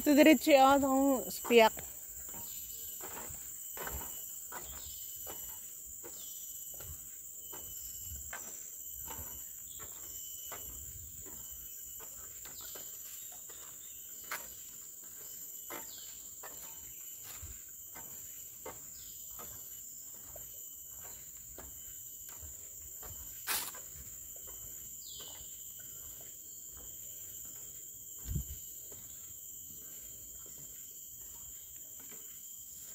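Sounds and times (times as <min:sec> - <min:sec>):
footsteps on trail: 0:00.0 - 0:32.9
insects droning: 0:00.0 - 0:32.9.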